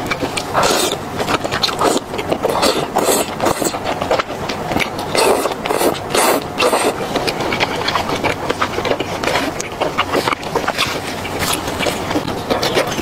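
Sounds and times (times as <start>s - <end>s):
wet chewing and slurping: 0.0s - 13.0s.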